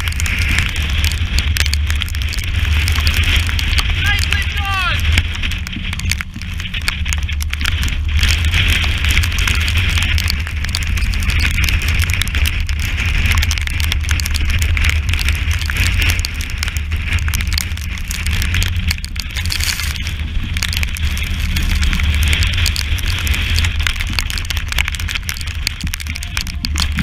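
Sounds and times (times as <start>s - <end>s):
hiss of wind and sea: 0.0s - 27.0s
wind buffeting microphone: 0.0s - 27.0s.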